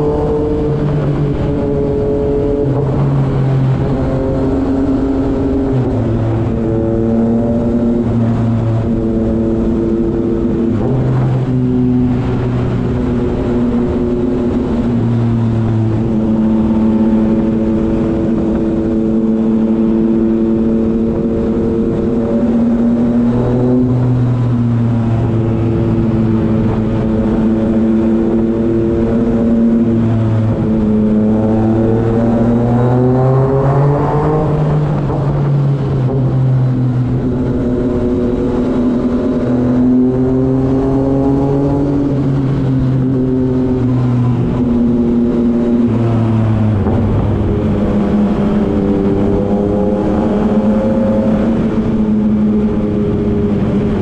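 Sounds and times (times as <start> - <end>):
motorcycle engine in a tunnel: 0.0 - 54.0.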